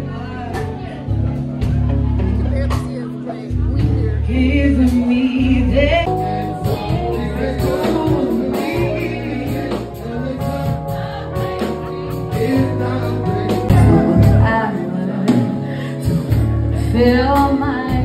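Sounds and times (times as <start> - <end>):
live band music with singer: 0.0 - 18.0.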